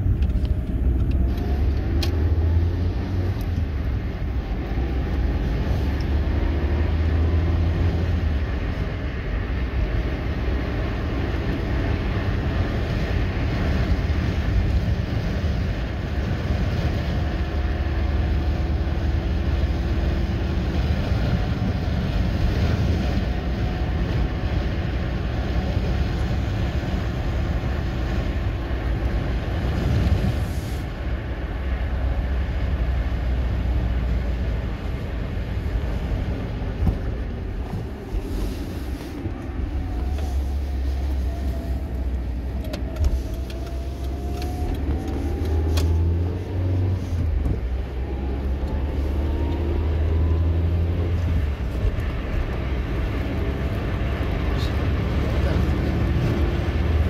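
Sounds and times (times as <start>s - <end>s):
vehicle interior rumble: 0.0s - 57.0s.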